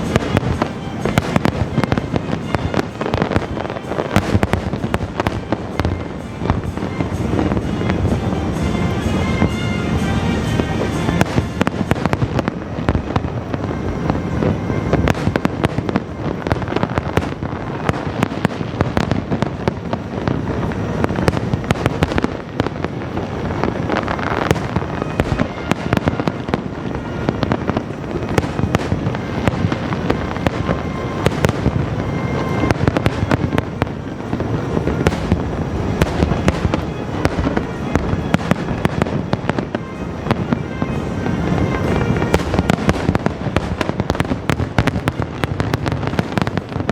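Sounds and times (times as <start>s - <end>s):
firework shell bursts and crackles: 0.0s - 46.9s.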